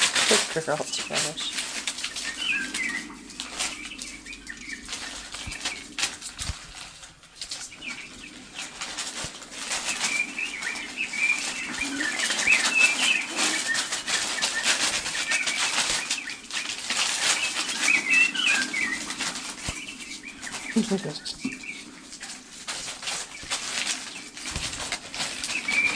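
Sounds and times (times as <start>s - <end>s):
birds chirping: 0.0s - 25.9s
wings flapping rapidly: 0.0s - 25.9s.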